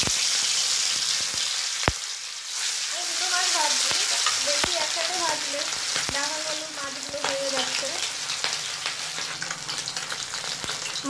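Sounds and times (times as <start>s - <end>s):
fish sizzling in hot oil: 0.0s - 11.0s
sharp oil crackles: 0.0s - 11.0s.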